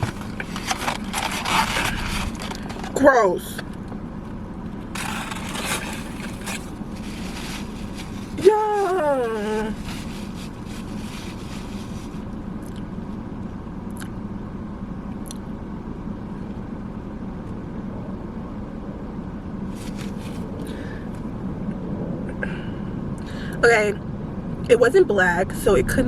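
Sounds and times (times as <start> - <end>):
faint constant hum: 0.0 - 26.0
low rumble inside car: 0.0 - 26.0.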